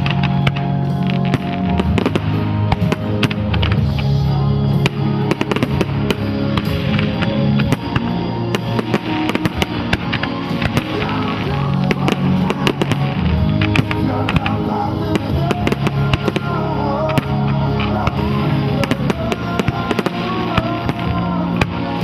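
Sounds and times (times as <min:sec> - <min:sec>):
fireworks cracking and banging: 0:00.0 - 0:22.0
loud music: 0:00.0 - 0:22.0.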